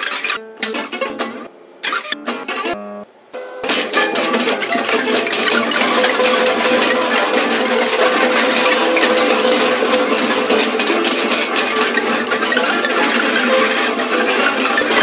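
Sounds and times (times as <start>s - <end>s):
prepared guitar crackling and rattling: 0.0s - 3.0s, 3.6s - 15.0s
held guitar tone: 0.2s - 15.0s.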